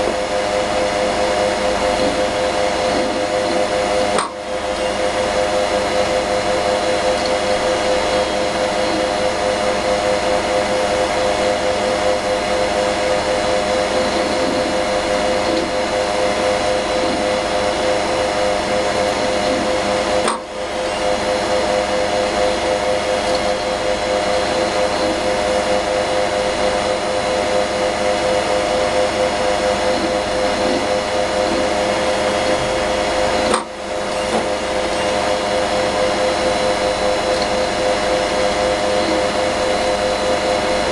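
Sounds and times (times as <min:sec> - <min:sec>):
hard disk drive whining: 0:00.0 - 0:40.9.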